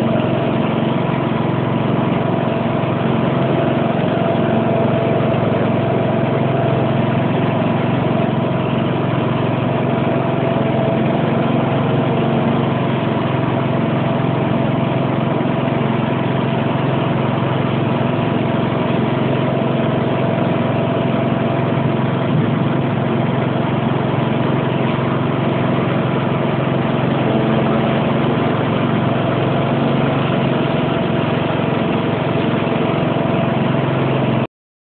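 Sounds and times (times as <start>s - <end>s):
garden tractor engine running: 0.0s - 34.5s.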